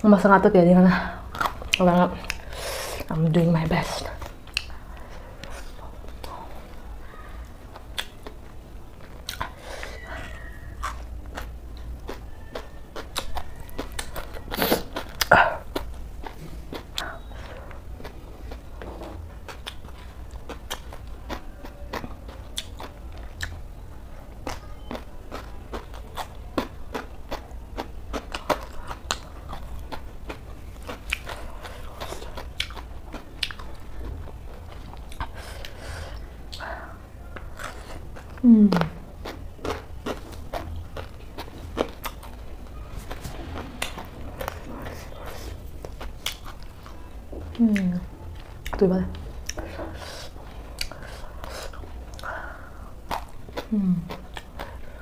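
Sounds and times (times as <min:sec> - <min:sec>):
crunchy chewing: 0:01.2 - 0:03.2, 0:03.8 - 0:55.0.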